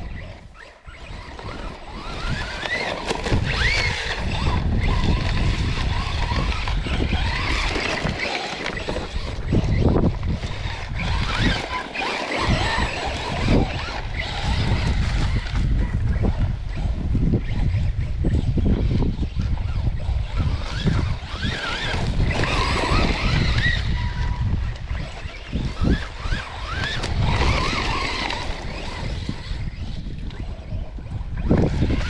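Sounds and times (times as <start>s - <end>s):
electric motor whining: 0.0s - 32.0s
wind and tyres in sand: 0.0s - 32.0s.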